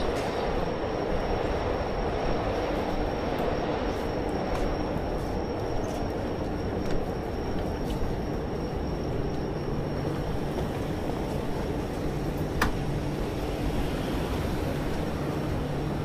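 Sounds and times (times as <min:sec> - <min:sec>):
low rumble of city noise: 0:00.0 - 0:16.0.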